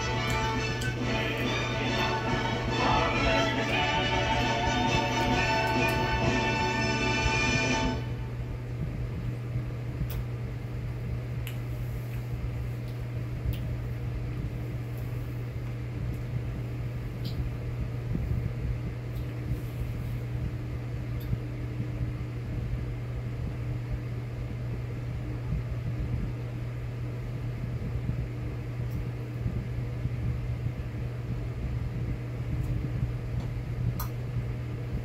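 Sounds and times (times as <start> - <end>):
electrical hum with hiss: 0.0 - 35.0.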